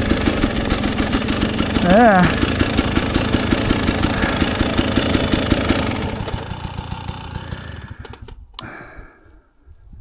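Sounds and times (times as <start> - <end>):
dirt bike engine idling: 0.0 - 8.5.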